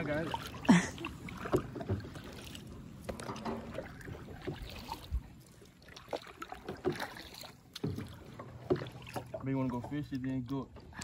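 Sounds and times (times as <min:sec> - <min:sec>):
faint splashing and dripping: 0:00.0 - 0:11.0
paddle stroking through water: 0:00.0 - 0:11.0.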